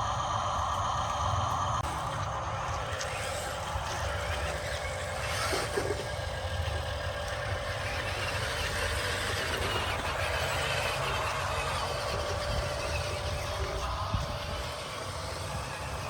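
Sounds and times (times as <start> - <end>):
constant whine: 0.0 - 16.0
toy machine motor drone: 0.0 - 16.0.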